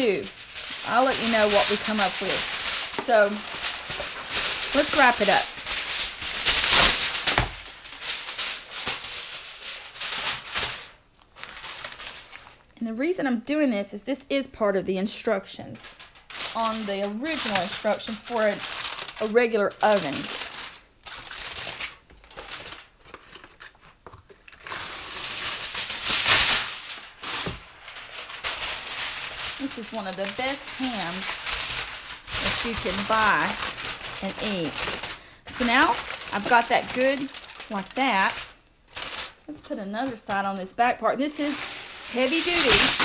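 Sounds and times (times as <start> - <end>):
sharp foil crack: 0.0 - 12.6, 15.8 - 23.6, 24.5 - 39.5, 41.4 - 43.0
aluminium foil crinkling: 0.0 - 12.8, 15.2 - 43.0.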